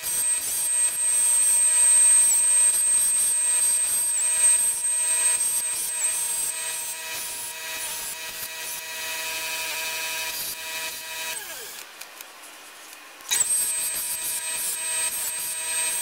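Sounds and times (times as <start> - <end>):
power tool whine: 0.0 - 12.0, 13.3 - 16.0.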